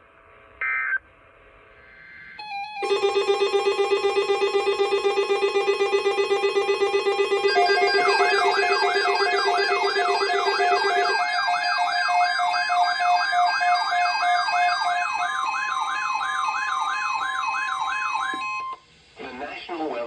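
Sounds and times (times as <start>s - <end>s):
electronic siren sweeping: 2.3s - 18.8s
steady alert tones: 2.4s - 18.8s.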